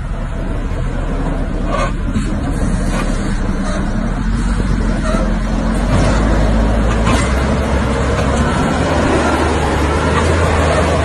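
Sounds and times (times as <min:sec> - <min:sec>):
wheel loader diesel engine: 0:00.0 - 0:11.0.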